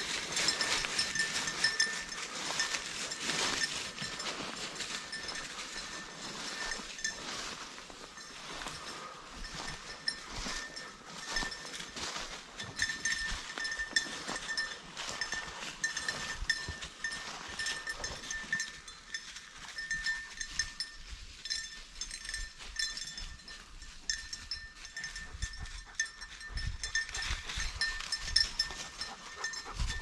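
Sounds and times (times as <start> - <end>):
footsteps through dry brush: 0.0 - 30.0
small bell jingling: 0.0 - 30.0.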